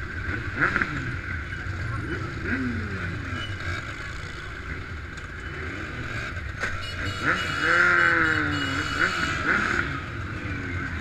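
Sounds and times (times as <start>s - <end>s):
faint crowd voices: 0.0s - 11.0s
motorcycle engines rumbling: 0.0s - 11.0s.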